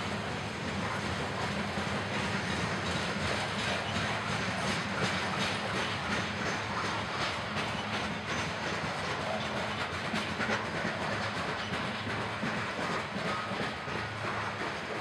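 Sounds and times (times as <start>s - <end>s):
steel wheels rumbling on rail: 0.0s - 15.0s
wheels clacking over rail joints: 0.6s - 15.0s.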